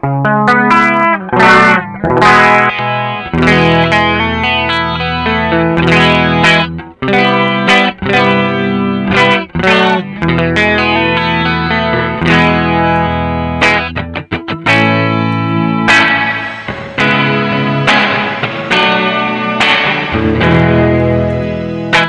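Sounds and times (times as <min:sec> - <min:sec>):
electric guitar strumming chords: 0:00.0 - 0:22.0.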